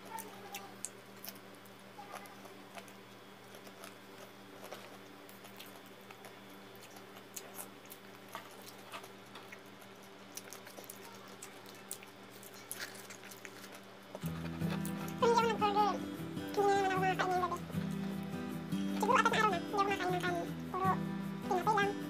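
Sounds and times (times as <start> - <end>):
chewing with mouth clicks: 0.0 - 20.9.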